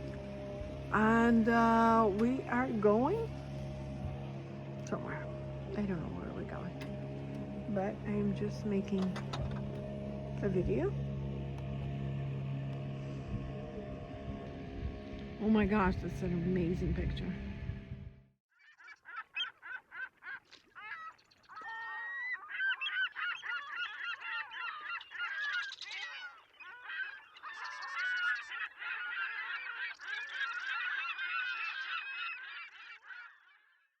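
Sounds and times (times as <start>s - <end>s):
geese honking: 0.0s - 14.7s, 18.6s - 33.7s.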